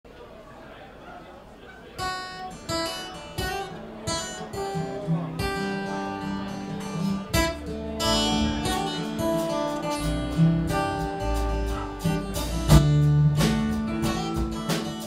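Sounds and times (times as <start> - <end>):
picked guitar notes: 2.0 - 15.0
strummed guitar chords: 2.0 - 15.0
live band playing: 2.2 - 15.0
bass guitar: 2.8 - 15.0.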